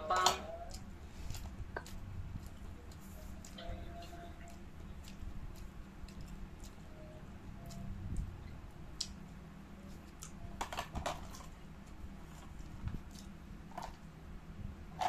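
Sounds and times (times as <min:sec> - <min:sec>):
low steady hum: 0:00.0 - 0:15.0
man chewing food: 0:00.5 - 0:10.6, 0:11.2 - 0:14.1.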